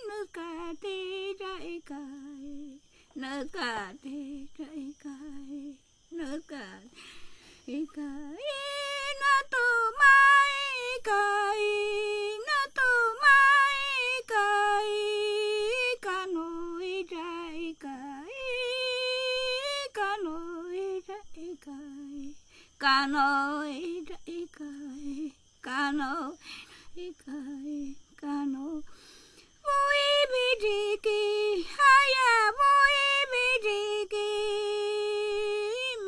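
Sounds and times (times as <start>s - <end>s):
woman singing unaccompanied: 0.0s - 36.0s.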